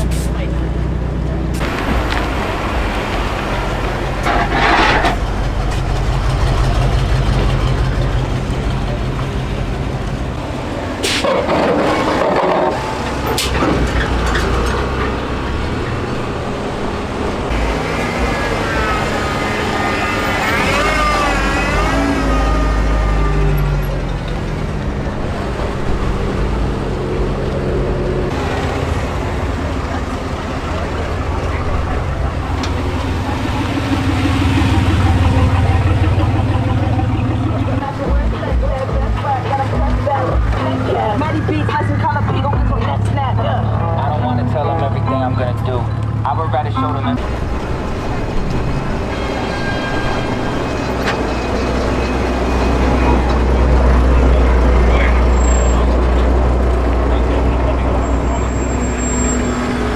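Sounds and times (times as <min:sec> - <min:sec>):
road and wind noise: 0:00.0 - 0:59.9
vehicle engine rumbling: 0:00.0 - 0:59.9.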